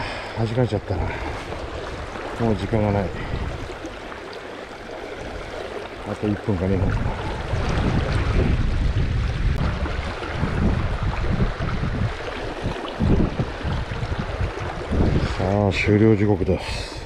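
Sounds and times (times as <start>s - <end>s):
river water rushing: 0.0s - 15.9s
wind buffeting microphone: 0.0s - 17.0s.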